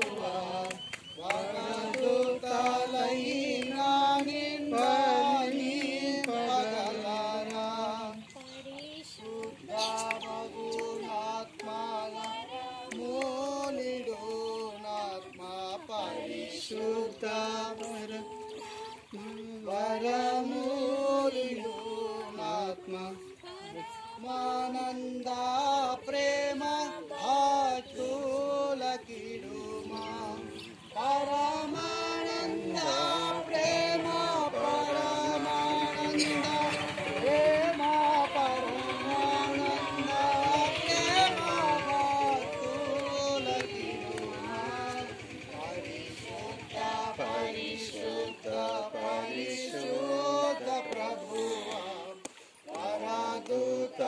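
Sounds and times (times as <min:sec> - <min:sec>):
devotional song with accompaniment: 0:00.0 - 0:54.0.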